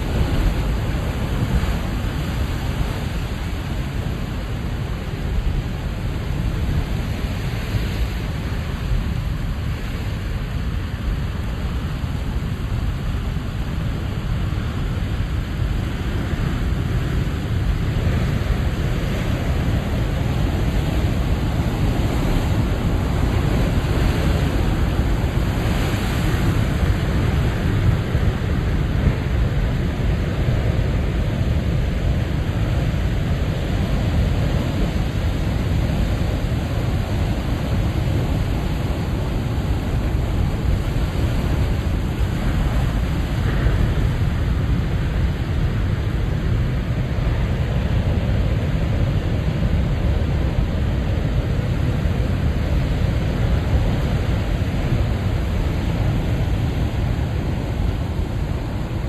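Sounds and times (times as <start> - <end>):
ocean waves breaking on rocks: 0.0 - 59.0.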